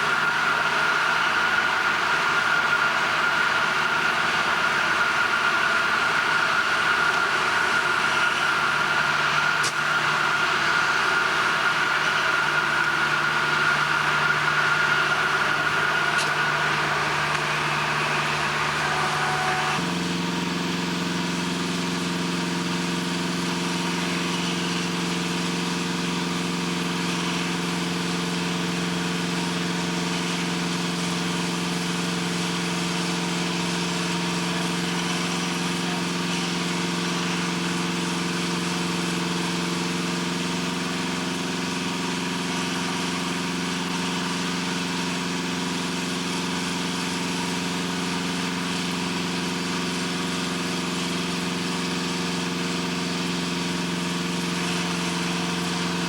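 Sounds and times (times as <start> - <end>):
heavy machinery whining: 0.0 - 56.0
low engine hum: 0.0 - 56.0.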